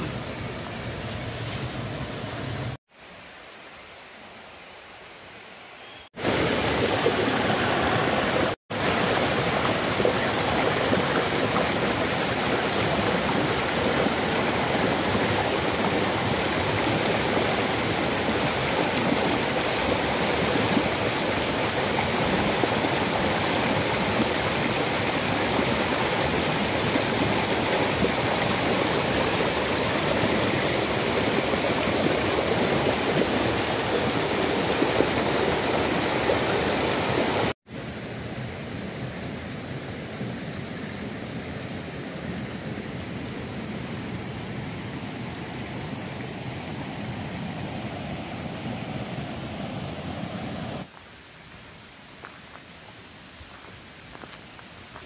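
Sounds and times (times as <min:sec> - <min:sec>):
stream water rushing over rocks: 0:06.2 - 0:39.8, 0:40.5 - 0:55.0.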